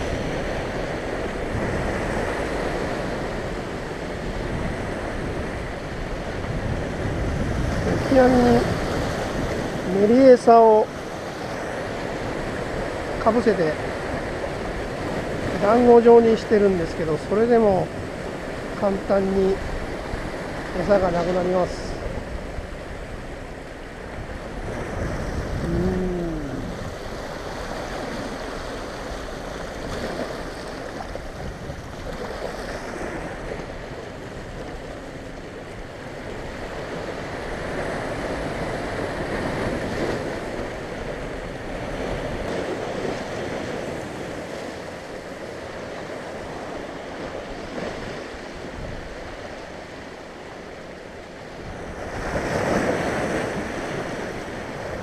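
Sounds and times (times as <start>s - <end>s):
wind buffeting microphone: 0.0s - 50.7s
waves washing over rocks: 0.0s - 55.0s.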